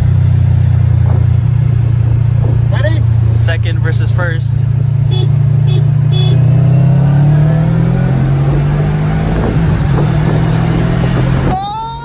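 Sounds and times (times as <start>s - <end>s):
car engine accelerating hard: 0.0s - 11.8s
road noise: 0.0s - 12.0s.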